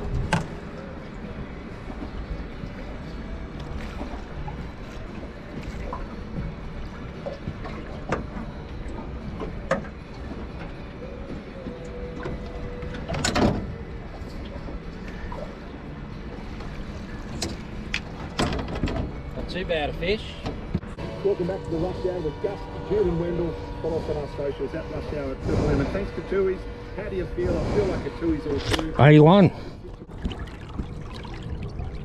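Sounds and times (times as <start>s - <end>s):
water and hull noise: 0.0s - 32.0s.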